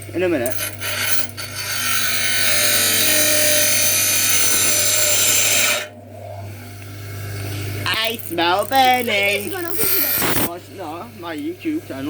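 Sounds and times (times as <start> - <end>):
low electrical hum: 0.0 - 12.0
power tool running: 0.0 - 12.0.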